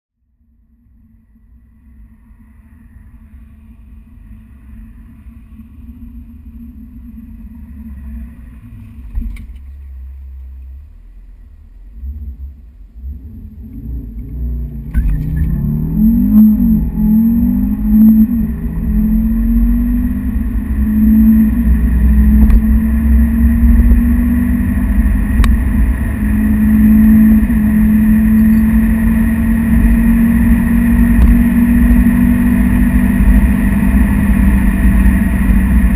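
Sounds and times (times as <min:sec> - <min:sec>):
car engine accelerating: 0:00.7 - 0:35.9.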